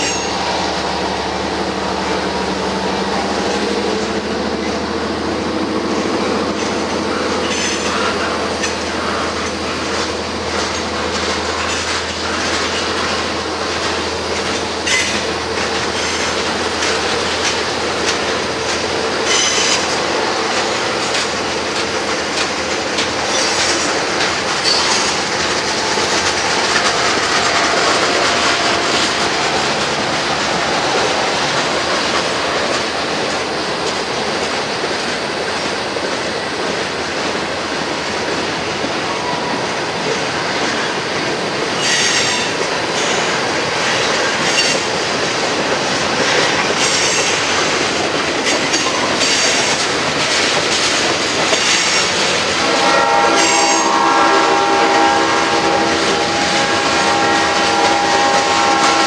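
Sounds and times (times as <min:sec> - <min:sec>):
steel wheels rumbling on rails: 0:00.0 - 0:59.0
wheels clicking over rail joints: 0:05.9 - 0:59.0.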